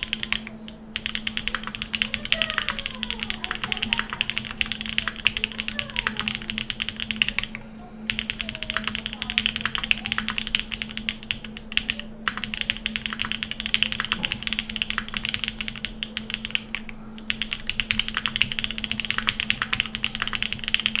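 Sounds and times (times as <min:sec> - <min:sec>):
fast typing on mechanical keyboard: 0:00.0 - 0:21.0.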